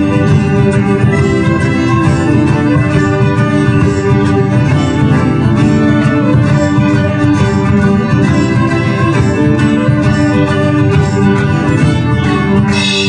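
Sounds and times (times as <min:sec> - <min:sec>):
folk band with squeezeboxes: 0:00.0 - 0:13.0.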